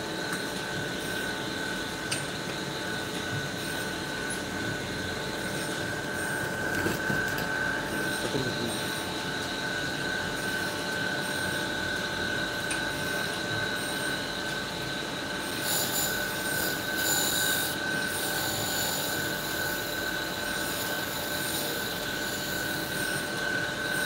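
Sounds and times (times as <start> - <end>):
grinding wheel high-pitched whine: 0.0 - 24.0.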